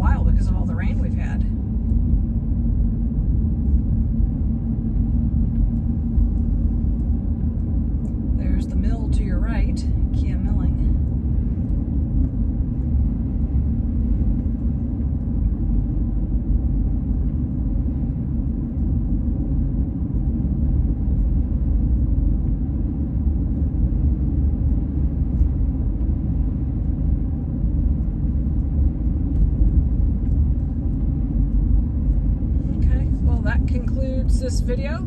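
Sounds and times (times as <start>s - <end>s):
car driving road noise: 0.0s - 19.4s, 23.2s - 35.0s.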